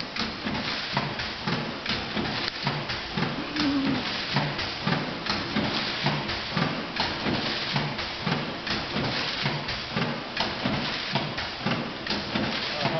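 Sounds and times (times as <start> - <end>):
packing machine rhythmic clatter: 0.0 - 12.9.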